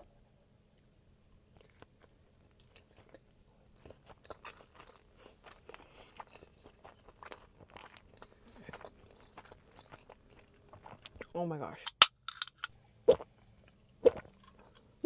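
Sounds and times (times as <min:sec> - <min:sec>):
wet chewing mouth clicks: 0:00.8 - 0:11.3, 0:13.1 - 0:14.9.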